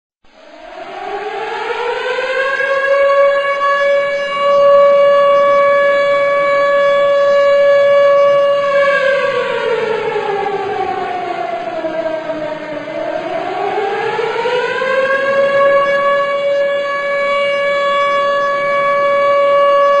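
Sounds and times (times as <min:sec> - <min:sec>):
civil defence siren wailing: 0:00.3 - 0:20.0.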